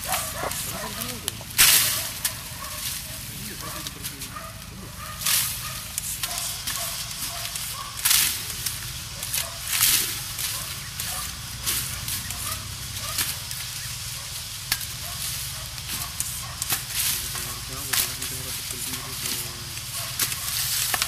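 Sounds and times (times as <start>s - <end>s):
dry cane stalks rustling: 0.0s - 21.0s.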